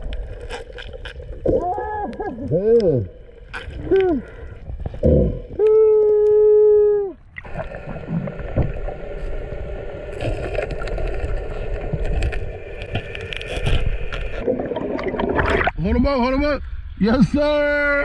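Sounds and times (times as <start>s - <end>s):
faint crackles: 0.0s - 15.8s
water churning underwater: 0.0s - 18.0s.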